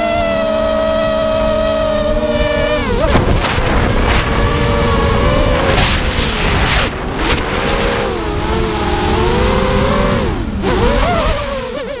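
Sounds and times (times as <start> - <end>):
drone motors whining: 0.0 - 12.0
wind rumble on microphone: 1.4 - 11.8.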